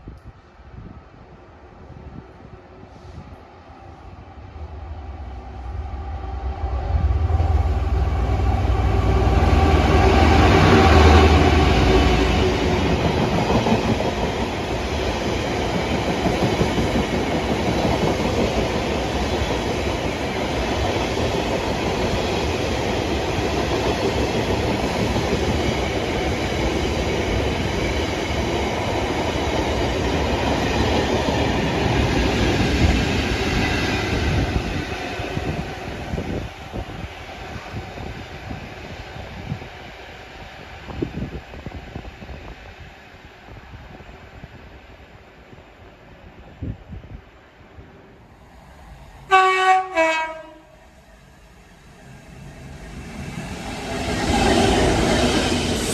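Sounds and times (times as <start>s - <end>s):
diesel locomotive engine rumble: 0.8s - 39.8s, 46.4s - 55.9s.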